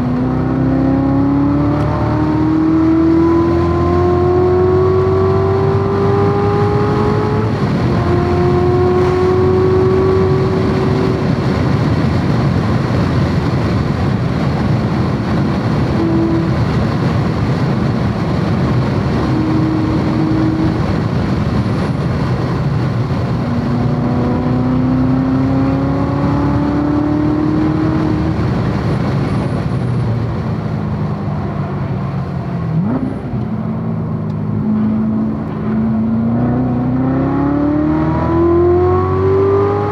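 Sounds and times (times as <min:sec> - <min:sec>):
car engine revving through gears: 0:00.0 - 0:39.9
wind noise: 0:00.0 - 0:39.9.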